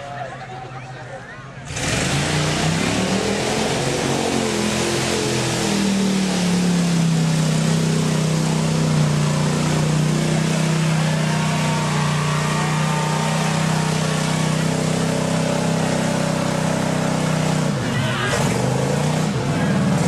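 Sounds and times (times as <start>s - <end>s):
truck engine revving: 1.6s - 20.0s.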